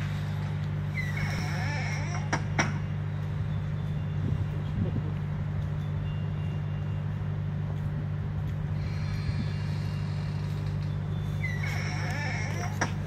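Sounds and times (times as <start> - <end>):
faint high whine: 0.0 - 13.0
low mechanical hum: 0.0 - 13.0.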